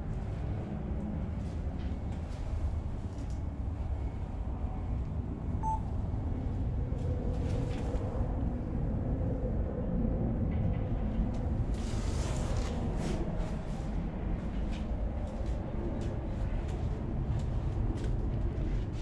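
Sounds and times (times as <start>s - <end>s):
faint hum: 0.0s - 19.0s
low background rumble: 0.0s - 19.0s.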